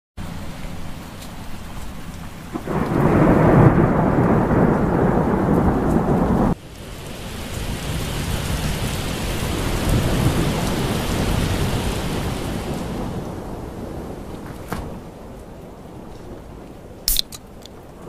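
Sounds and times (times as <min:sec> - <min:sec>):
rain hissing: 0:00.2 - 0:18.0
thunder rumbling: 0:00.7 - 0:18.0.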